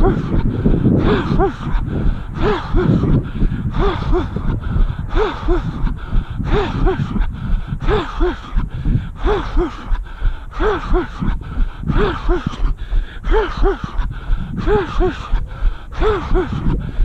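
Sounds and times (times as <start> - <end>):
runner breathing hard: 0.0 - 17.0.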